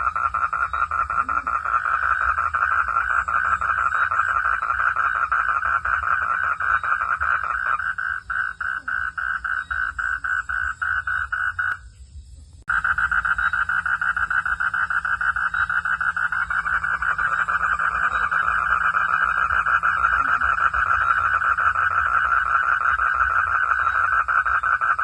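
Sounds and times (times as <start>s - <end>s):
frogs pulsing calls: 0.0s - 25.0s.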